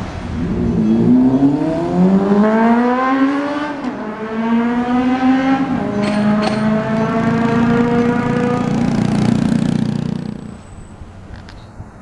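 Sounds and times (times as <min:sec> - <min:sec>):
vehicle engine accelerating: 0:00.4 - 0:10.7.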